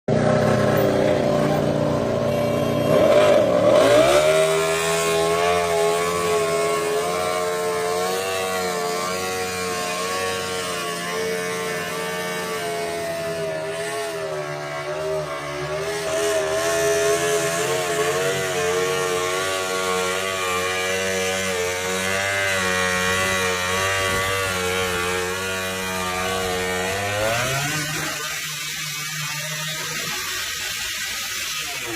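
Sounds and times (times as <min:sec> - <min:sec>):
racing motorcycle engine high revs: 0:00.1 - 0:31.9.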